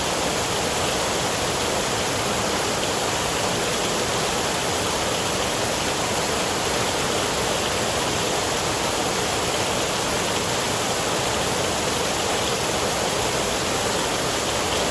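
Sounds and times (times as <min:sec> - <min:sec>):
steady rain: 0:00.0 - 0:14.9.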